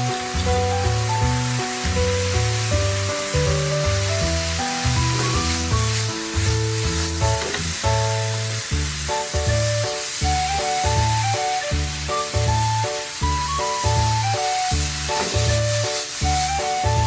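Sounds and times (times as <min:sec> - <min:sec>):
noodles sizzling in a pan: 0:00.0 - 0:17.0.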